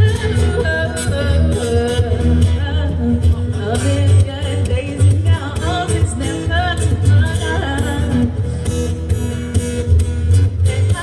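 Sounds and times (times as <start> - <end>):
woman singing: 0.0 - 8.7, 10.4 - 11.0
acoustic guitar: 0.0 - 11.0.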